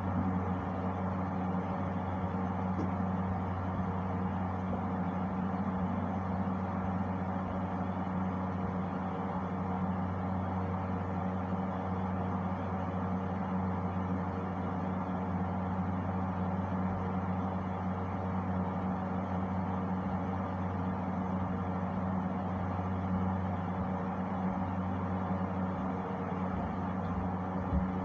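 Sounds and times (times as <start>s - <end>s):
steady low hum: 0.0s - 15.3s, 16.9s - 28.0s.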